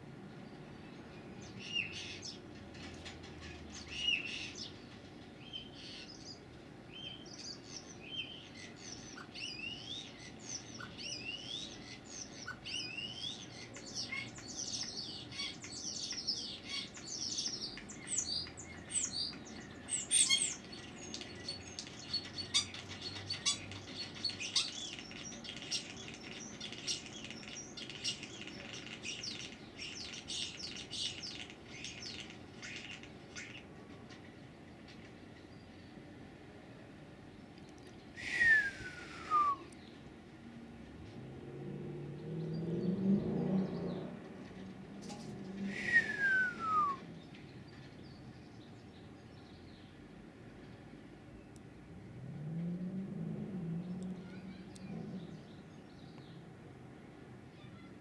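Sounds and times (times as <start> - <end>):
songbird singing: 0.3 - 36.4, 37.2 - 40.7, 41.6 - 51.8, 52.4 - 58.0.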